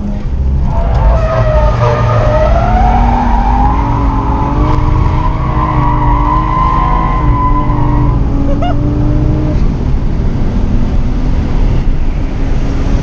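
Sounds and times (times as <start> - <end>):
car engine running hard: 0.0 - 13.0
road and wind noise: 0.0 - 13.0.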